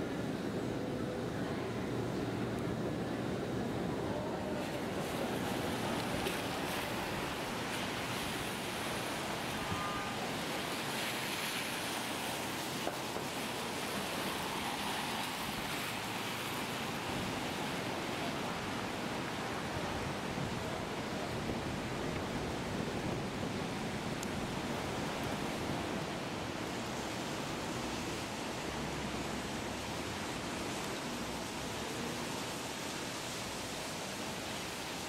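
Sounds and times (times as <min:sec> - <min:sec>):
wet road noise: 0:00.0 - 0:35.0
falling rain: 0:04.0 - 0:35.0.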